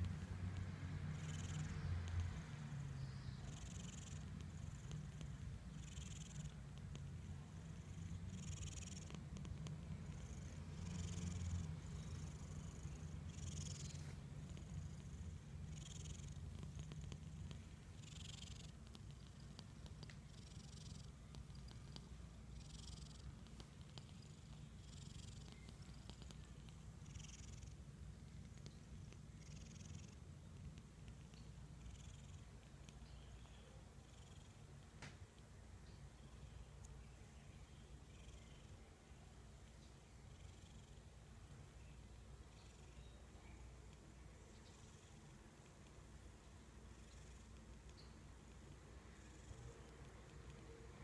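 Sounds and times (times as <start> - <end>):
cat snoring softly: 0.0 - 34.8, 40.2 - 41.2, 44.4 - 45.9, 46.7 - 51.0.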